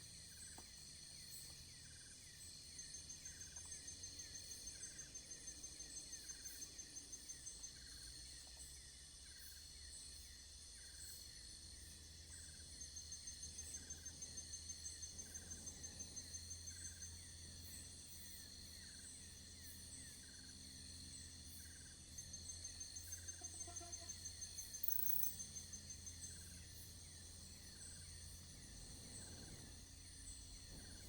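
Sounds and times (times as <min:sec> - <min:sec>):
crickets chirping and trilling: 0:00.0 - 0:31.0.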